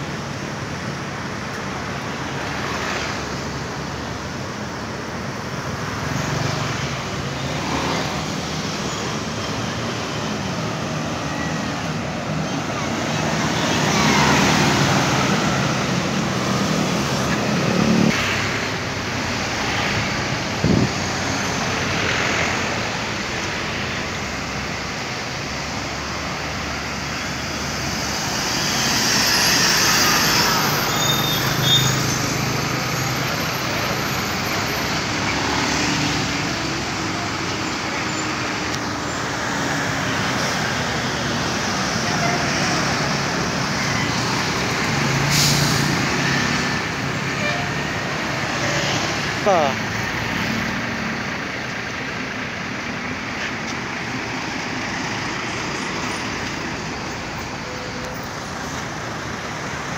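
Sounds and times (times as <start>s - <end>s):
coaches passing on road: 0.0s - 59.9s.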